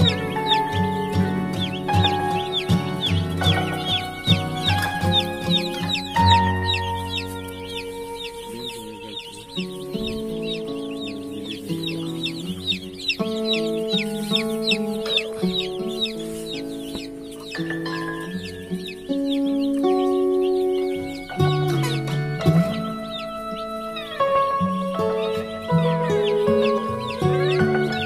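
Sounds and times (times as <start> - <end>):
background music with held chords: 0.0 - 28.0
chicks peeping: 0.0 - 28.0.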